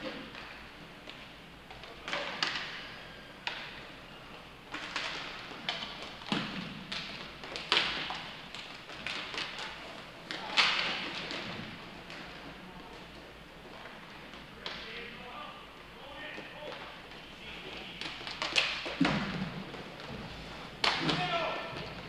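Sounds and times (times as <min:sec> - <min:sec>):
hockey sticks and puck clacking: 0:00.0 - 0:15.2, 0:16.2 - 0:22.0.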